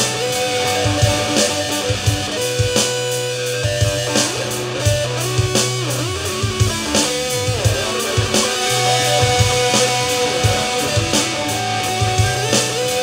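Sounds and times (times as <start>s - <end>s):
drum kit: 0.0s - 13.0s
electric guitar lead lines: 0.0s - 13.0s
low bass notes: 0.0s - 13.0s.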